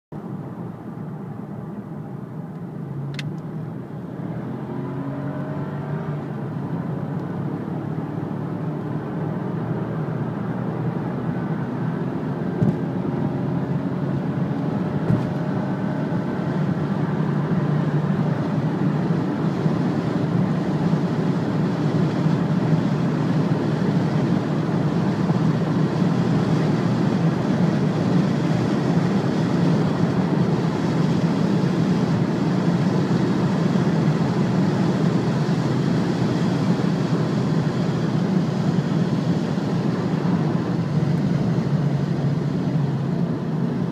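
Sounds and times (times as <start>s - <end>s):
road noise: 0.1s - 43.9s
car engine at full throttle: 0.2s - 43.9s.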